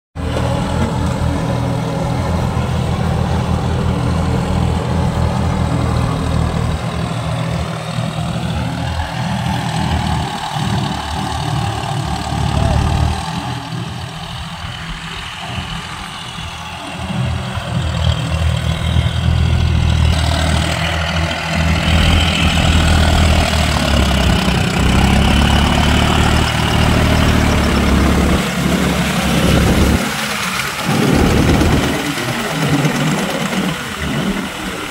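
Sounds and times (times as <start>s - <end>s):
mud and water churning: 0.2s - 34.9s
tractor diesel engine: 0.2s - 34.9s.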